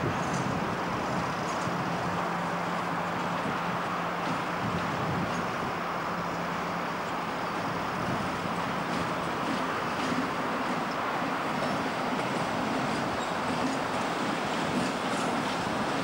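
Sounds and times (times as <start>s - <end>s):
locomotive engine drone: 0.0s - 16.0s
train rolling hiss: 0.0s - 16.0s.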